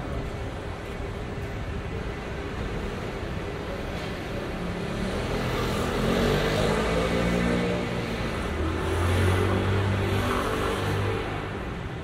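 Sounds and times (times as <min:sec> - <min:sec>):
steady traffic noise: 0:00.0 - 0:12.0.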